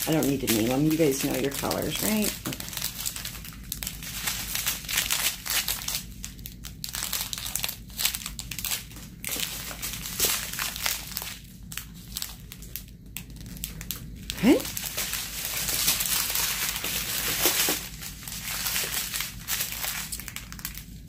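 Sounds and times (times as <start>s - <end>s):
plastic bags crinkling: 0.0s - 21.0s.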